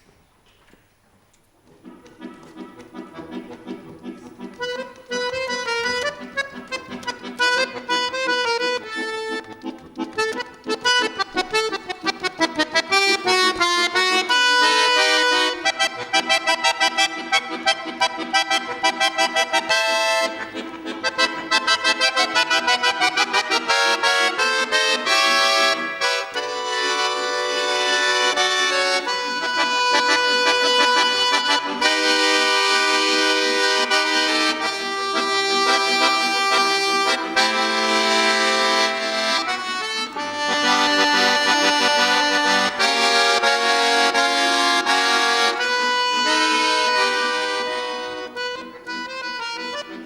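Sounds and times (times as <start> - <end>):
button accordion playing: 1.8 - 50.0.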